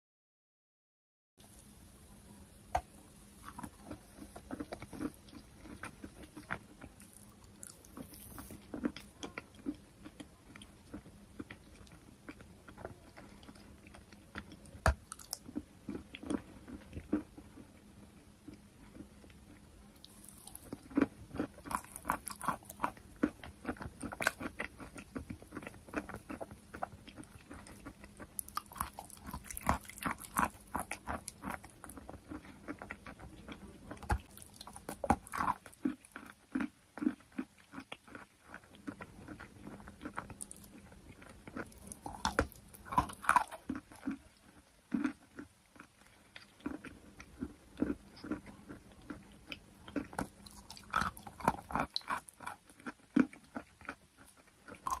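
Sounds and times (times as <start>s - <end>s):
crunchy biting and chewing: 2.7s - 55.0s.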